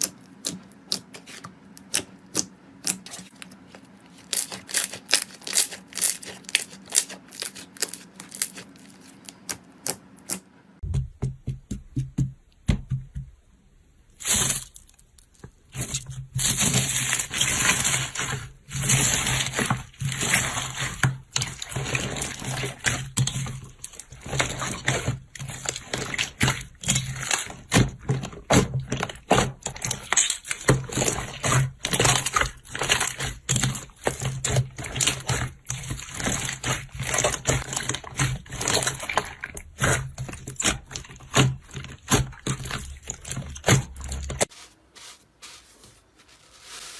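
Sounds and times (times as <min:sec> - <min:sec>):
slime squishing: 0:00.0 - 0:11.2, 0:14.1 - 0:46.9.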